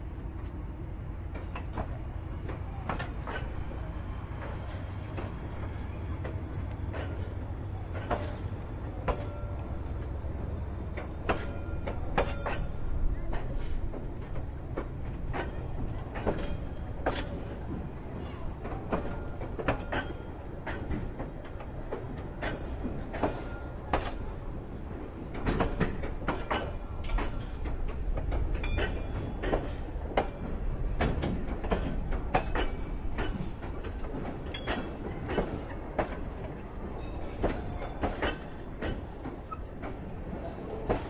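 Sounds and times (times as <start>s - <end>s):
diesel train rumble: 0.0s - 41.0s.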